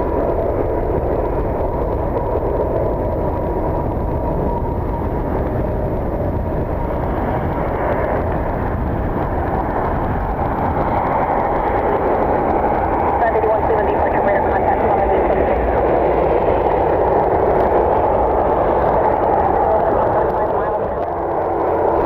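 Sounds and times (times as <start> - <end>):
distant jet engine rumble: 0.0 - 22.0
wind on microphone: 0.0 - 22.0.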